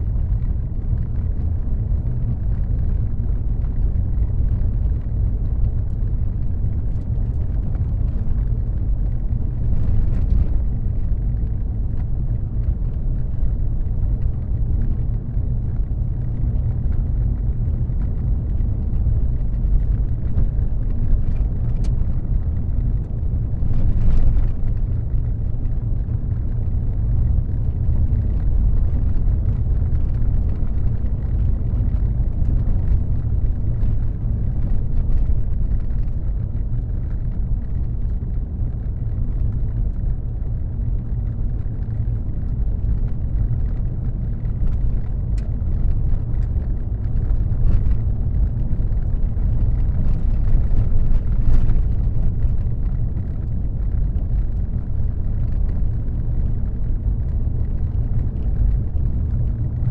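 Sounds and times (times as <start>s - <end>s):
car driving at speed: 0.0s - 59.9s.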